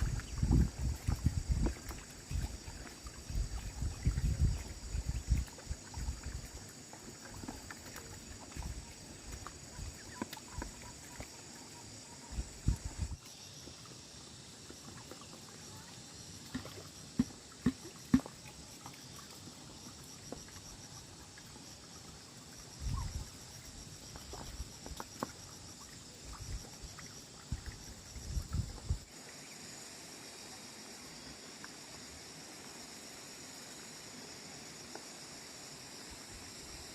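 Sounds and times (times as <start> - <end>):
insect chirring: 0.0 - 36.9.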